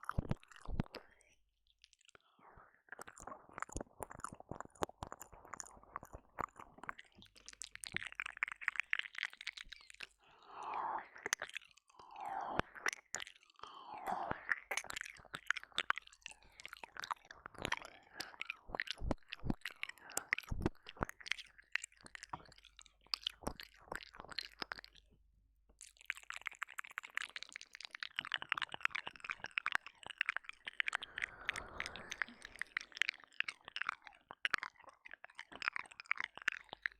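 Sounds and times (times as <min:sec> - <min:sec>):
wet mouth licking sounds: 0:00.0 - 0:02.2, 0:02.9 - 0:25.1, 0:25.8 - 0:36.9
lip smacks and tongue clicks: 0:00.0 - 0:25.1, 0:25.8 - 0:36.9
slurping: 0:02.1 - 0:22.6, 0:25.9 - 0:36.9.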